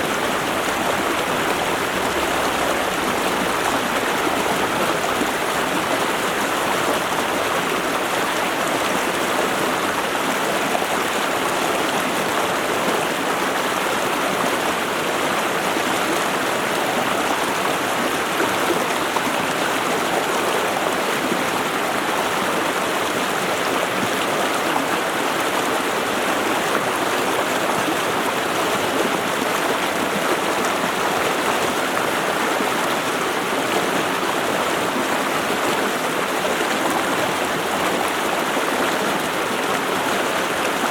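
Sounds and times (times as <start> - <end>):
creek running over rocks: 0.0 - 40.9.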